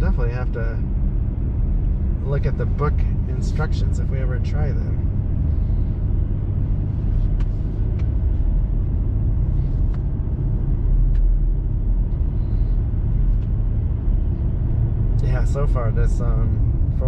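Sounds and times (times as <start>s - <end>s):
engine and tyre road noise: 0.0s - 17.0s.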